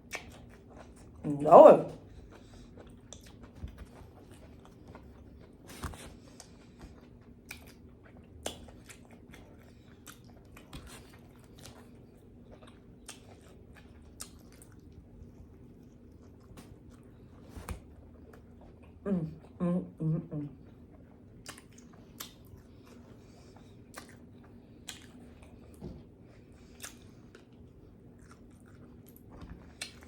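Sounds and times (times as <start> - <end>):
person chewing: 0.0 - 1.2, 2.0 - 19.0, 20.6 - 30.0.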